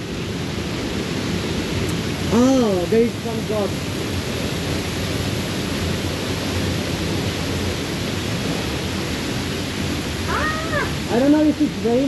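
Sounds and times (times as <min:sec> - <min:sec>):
waterfall and heavy rain rushing: 0:00.0 - 0:12.0.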